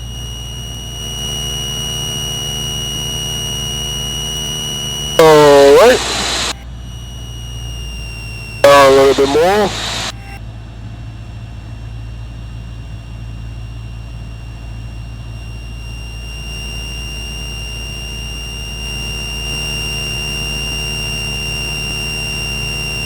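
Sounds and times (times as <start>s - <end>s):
high-pitched whine: 0.0s - 10.4s, 14.2s - 23.0s.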